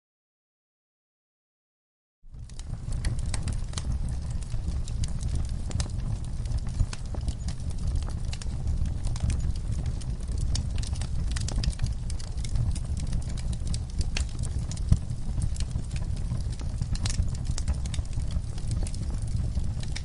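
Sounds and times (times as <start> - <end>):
crackles and pops of fire: 2.3 - 20.0
rumble of fire flames: 2.3 - 20.0.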